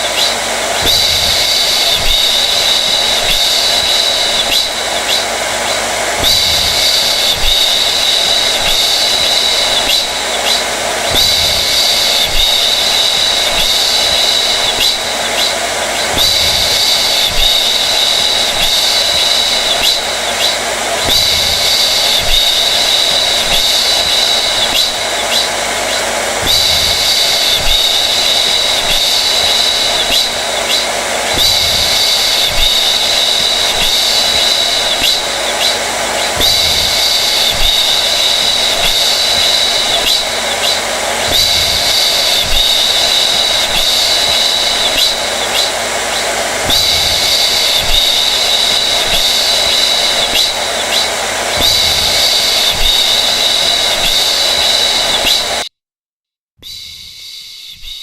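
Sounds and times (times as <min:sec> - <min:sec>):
hair dryer running: 0:00.0 - 0:55.7
high whine: 0:00.0 - 0:55.8.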